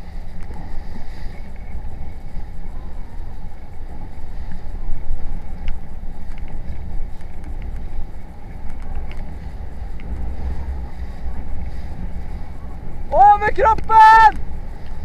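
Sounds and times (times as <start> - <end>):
low rumble: 0.0 - 15.0
wind and water rushing: 0.0 - 15.0.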